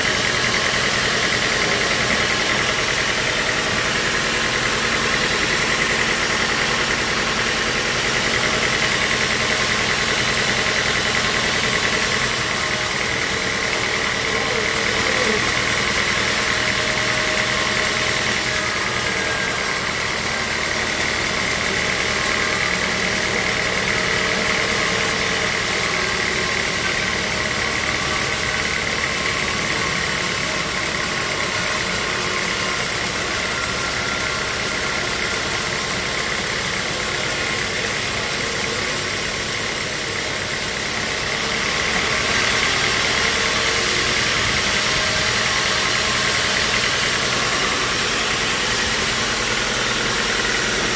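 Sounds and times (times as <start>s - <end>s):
sawmill machinery drone and whine: 0.0s - 50.9s.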